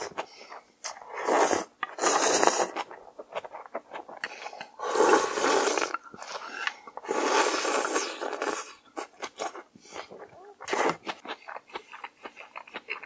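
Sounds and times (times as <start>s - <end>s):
noodle slurping: 0.9s - 12.8s.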